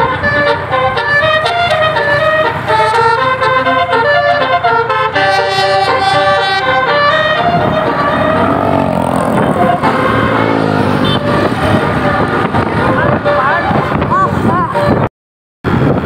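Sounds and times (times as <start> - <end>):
bus horn playing melody: 0.0 - 14.0
passing bus engine: 0.0 - 15.1, 15.7 - 16.0.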